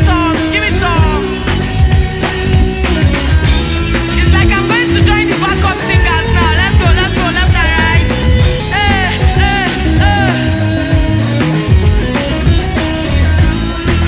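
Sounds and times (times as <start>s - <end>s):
bass guitar: 0.0s - 14.0s
drum kit: 0.0s - 14.0s
pitch-bending melody line: 0.0s - 14.0s.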